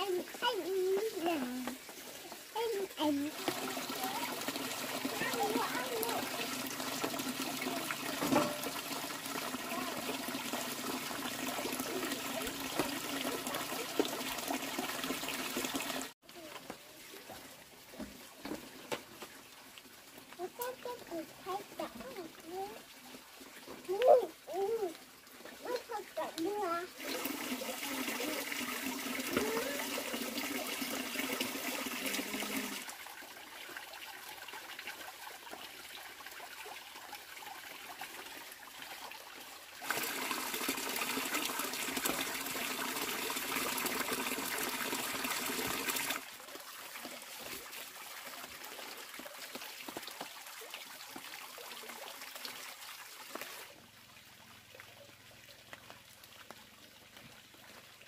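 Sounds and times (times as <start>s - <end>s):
water running and trickling: 0.0s - 58.0s.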